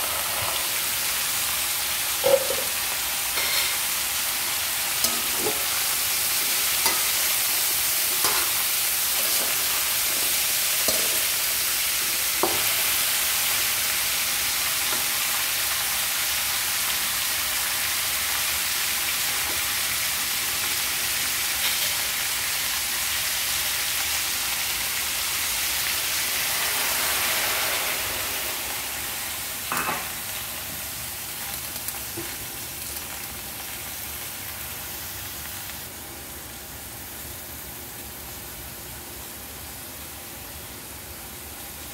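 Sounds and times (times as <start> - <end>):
food sizzling in a wok: 0.0 - 41.9.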